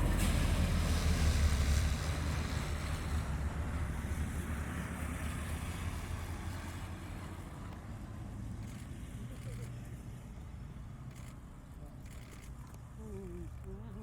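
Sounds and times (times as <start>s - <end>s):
turboprop engines rumbling: 0.0s - 14.0s.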